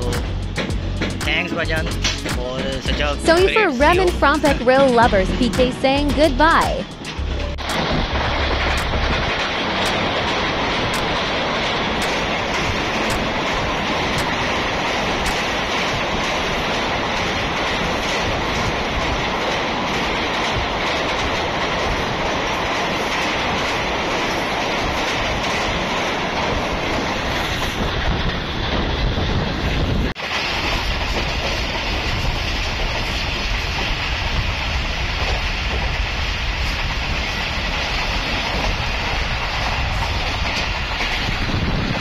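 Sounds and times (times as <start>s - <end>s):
train wheels on rails: 0.0s - 42.0s.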